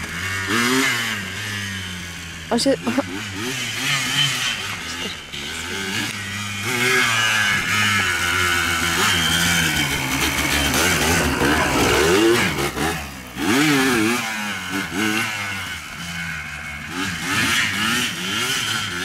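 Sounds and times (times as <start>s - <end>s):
quad bike engine revving: 0.0s - 19.0s.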